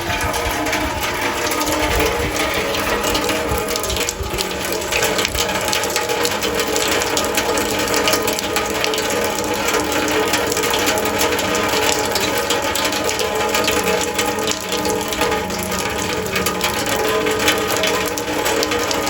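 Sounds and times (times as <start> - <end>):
rain pattering on hard surfaces: 0.0 - 19.0.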